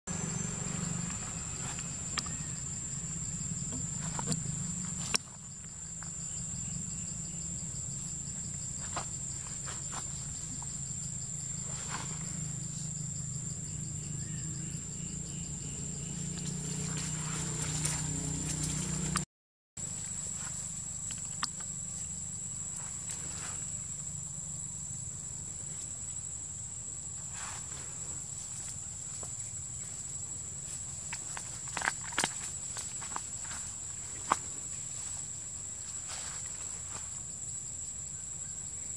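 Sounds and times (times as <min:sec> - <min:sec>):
insects droning: 0:00.1 - 0:38.9.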